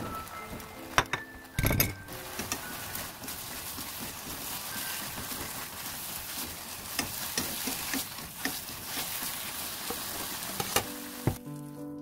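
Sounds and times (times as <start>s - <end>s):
food sizzling in a pan: 0.0s - 11.8s
utensils clicking against pan: 1.0s - 11.0s.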